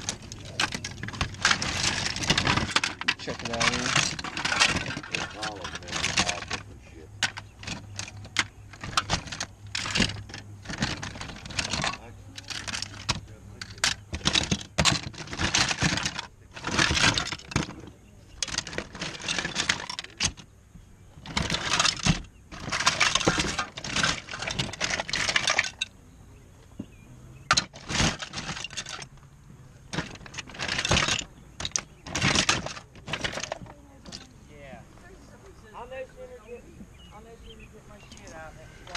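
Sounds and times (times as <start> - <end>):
plastic toys clattering: 0.0 - 20.5, 21.2 - 26.0, 27.4 - 34.7.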